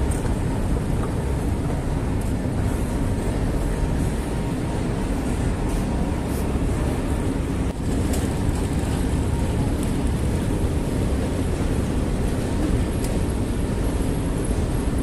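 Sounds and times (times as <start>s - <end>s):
escalator rumbling: 0.0s - 15.0s.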